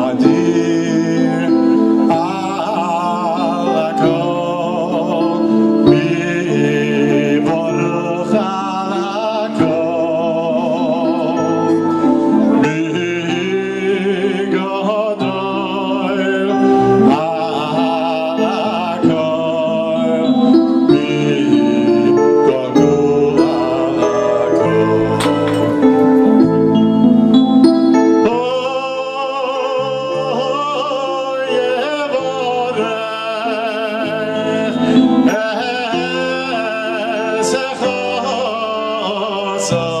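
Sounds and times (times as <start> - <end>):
man singing with vibrato: 0.0 - 40.0.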